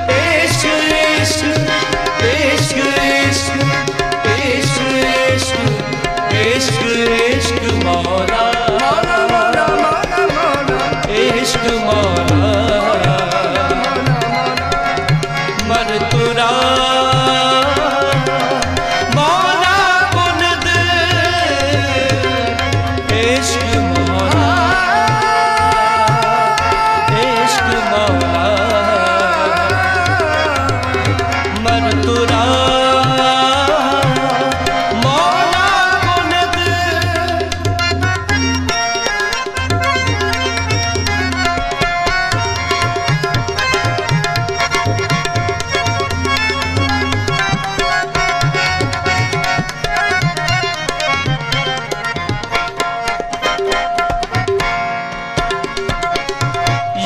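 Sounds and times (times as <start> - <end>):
tabla beat: 0.0 - 57.0.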